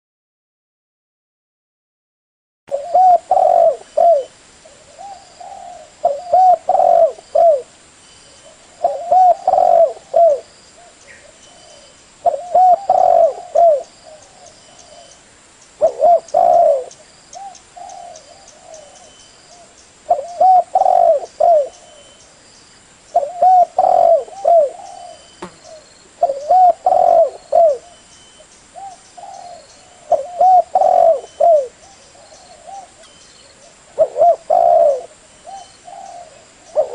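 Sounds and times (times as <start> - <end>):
dove cooing: 2.7 - 7.7, 8.4 - 15.2, 15.8 - 22.2, 23.1 - 28.0, 28.8 - 36.9.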